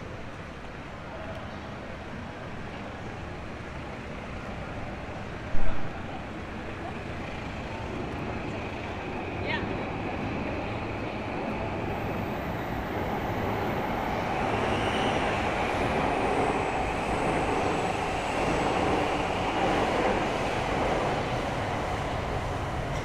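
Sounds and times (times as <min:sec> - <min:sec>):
train passing: 0:02.2 - 0:23.0.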